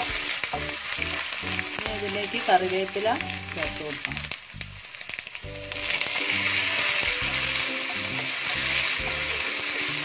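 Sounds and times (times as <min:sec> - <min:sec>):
background music: 0:00.0 - 0:10.0
leaves sizzling in hot oil: 0:00.0 - 0:10.0.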